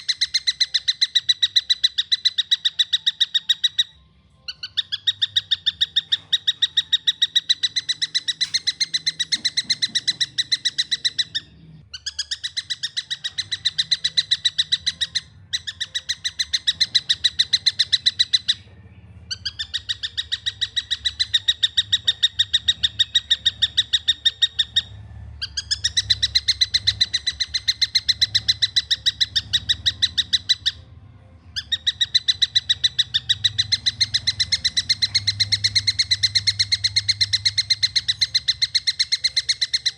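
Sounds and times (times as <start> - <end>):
faint low hum: 0.0 - 39.9
kingfisher calling: 4.6 - 18.6, 19.3 - 30.9, 31.6 - 39.9.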